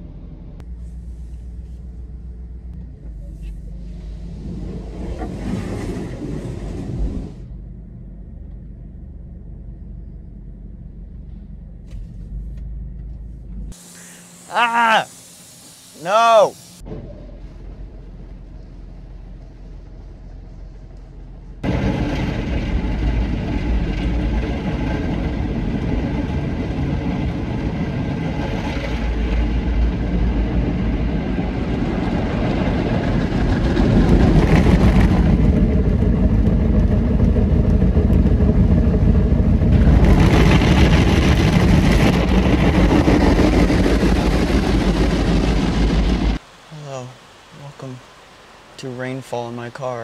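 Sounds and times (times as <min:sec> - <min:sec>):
car wash rushing and rumbling: 0:00.0 - 0:07.6, 0:11.8 - 0:50.0.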